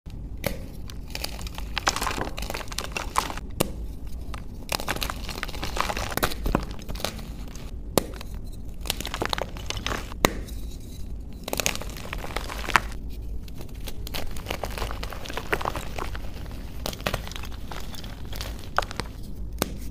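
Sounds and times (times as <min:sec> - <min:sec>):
chalk crunching and crackling: 0:00.6 - 0:19.9.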